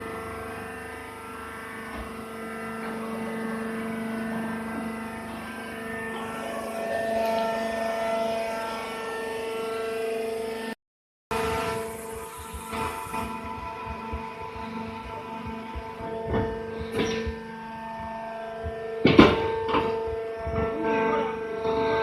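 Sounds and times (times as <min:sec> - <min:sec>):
hydraulic pump humming: 0:00.0 - 0:22.0.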